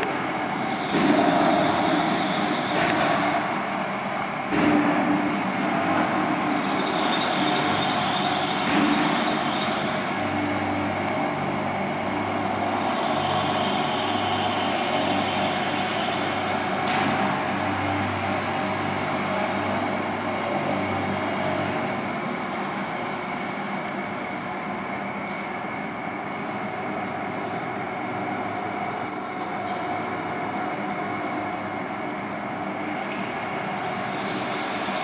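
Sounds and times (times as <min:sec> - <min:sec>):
high machine whine: 0:00.0 - 0:35.0.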